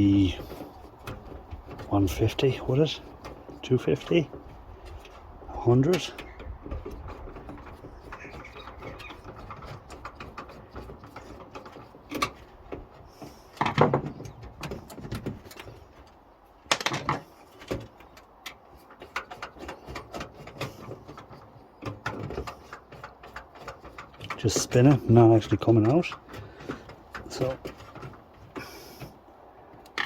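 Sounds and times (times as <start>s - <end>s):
metal clicks and scrapes: 0.0s - 30.0s.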